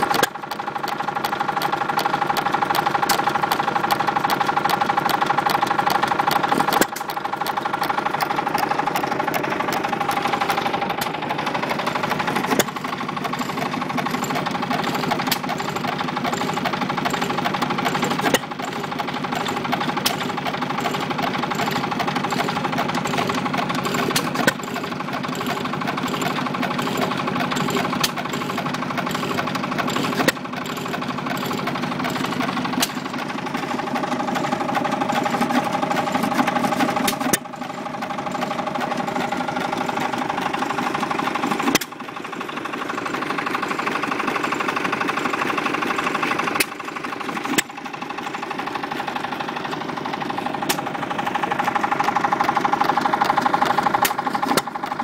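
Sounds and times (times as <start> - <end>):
engine mechanical clatter: 0.0 - 55.0.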